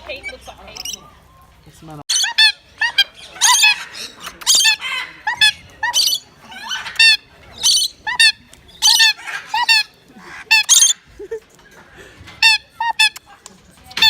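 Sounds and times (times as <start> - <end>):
parrots squawking: 0.0 - 1.2, 2.1 - 11.2, 12.3 - 13.3.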